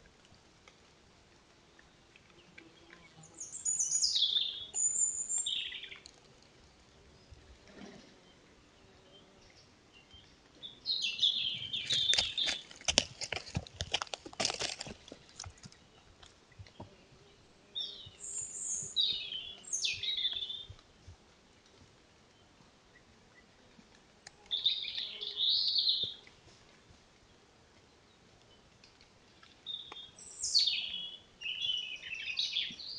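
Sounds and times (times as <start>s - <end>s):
small birds chirping: 1.6s - 20.8s, 21.7s - 32.9s.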